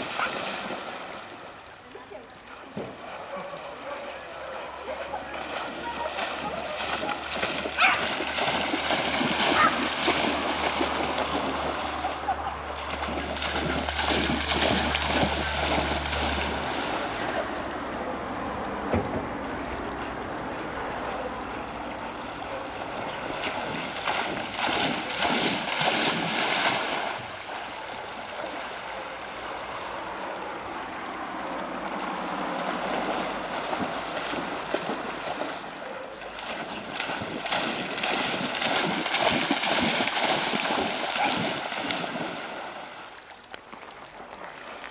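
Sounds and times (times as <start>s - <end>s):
dog splashing through water: 0.0s - 1.7s, 2.5s - 18.4s, 19.5s - 44.9s.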